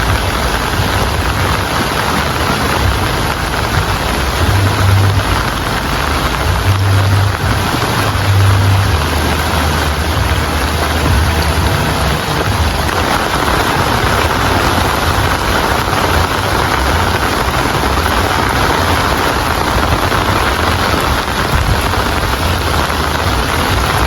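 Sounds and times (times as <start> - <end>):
heavy rainfall: 0.0 - 24.0
low rumble: 0.0 - 24.0.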